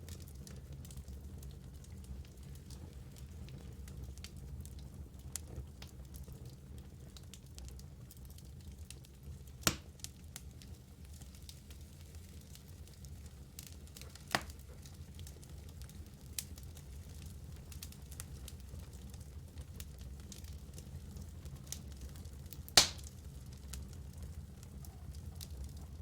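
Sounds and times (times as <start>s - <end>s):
fire flames rumbling: 0.0s - 26.0s
logs crackling and popping: 0.0s - 26.0s.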